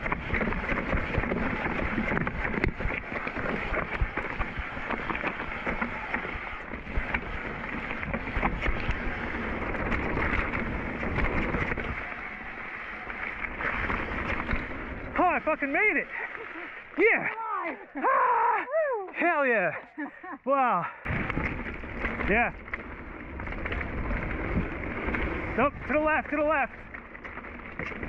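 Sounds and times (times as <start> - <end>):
bike knocking and rattling: 0.0 - 17.5, 21.1 - 28.0
bike tyres on dirt: 0.0 - 18.5, 21.0 - 28.0.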